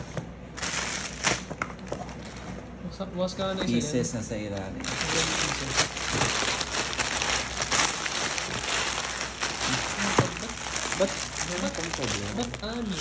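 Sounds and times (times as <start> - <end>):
plastic wrappers crinkling: 0.5 - 2.6, 4.5 - 13.0.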